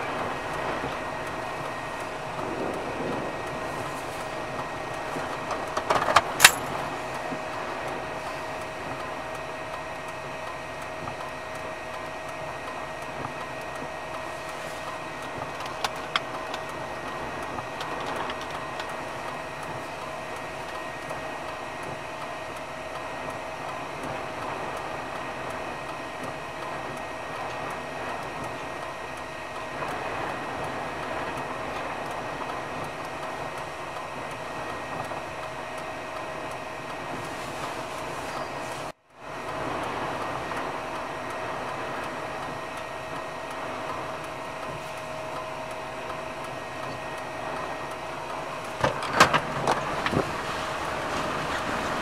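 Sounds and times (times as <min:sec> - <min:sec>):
faint steady hum: 0:00.0 - 0:52.0
road and engine noise: 0:00.0 - 0:52.0.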